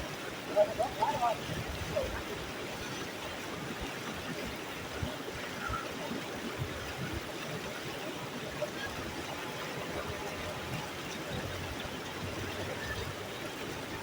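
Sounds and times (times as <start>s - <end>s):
stream water running: 0.0s - 14.0s.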